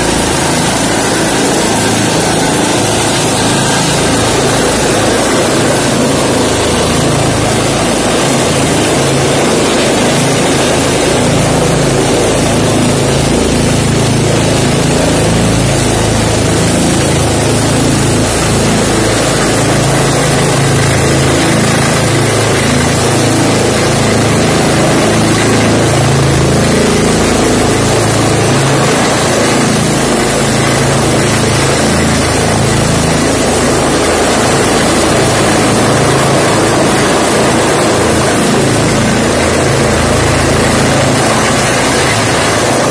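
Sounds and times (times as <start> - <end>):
helicopter hovering overhead: 0.0 - 42.9.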